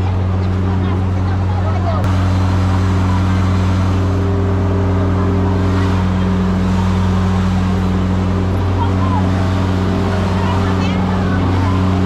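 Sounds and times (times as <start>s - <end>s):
engine droning steadily: 0.0s - 12.0s.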